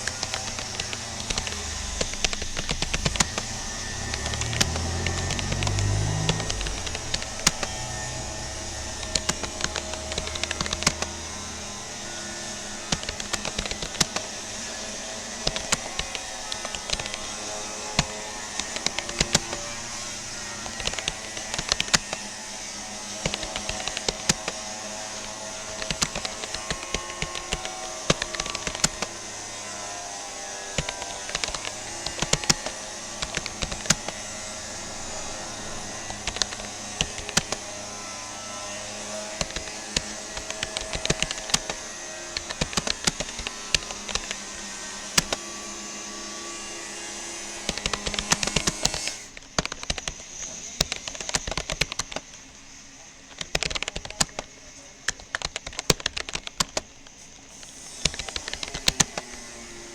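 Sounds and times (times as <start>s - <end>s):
keyboard key clicks: 0.0s - 29.7s, 30.6s - 45.6s, 47.2s - 52.4s, 53.3s - 56.9s, 58.0s - 59.4s.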